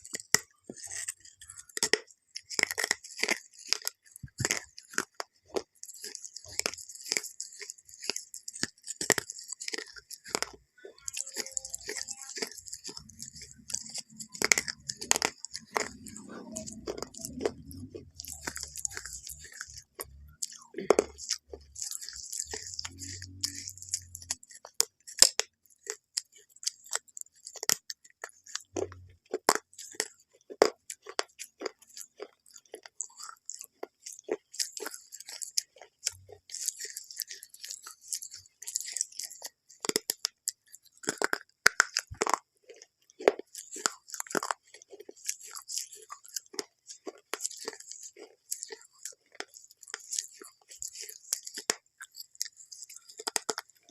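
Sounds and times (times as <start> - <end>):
crisp crunching: 0.0 - 53.9.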